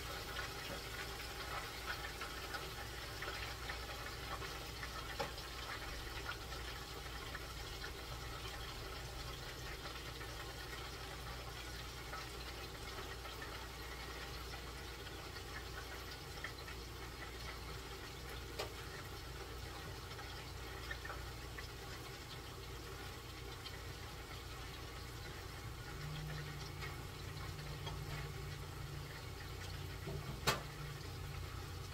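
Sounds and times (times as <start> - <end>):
hot oil sizzling and popping: 0.0 - 31.9.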